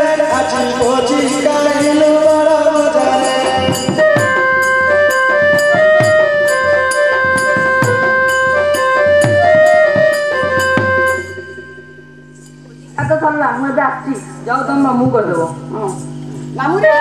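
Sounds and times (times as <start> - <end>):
steady drum beat: 0.0 - 16.9
keyboard-like melody: 0.0 - 17.0.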